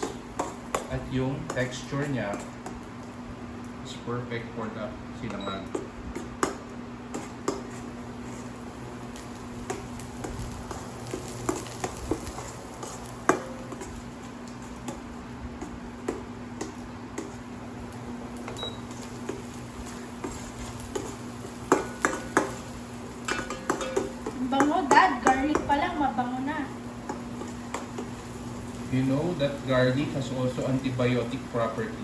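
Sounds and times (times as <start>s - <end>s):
garlic frying in oil: 0.0s - 4.0s, 6.2s - 32.0s.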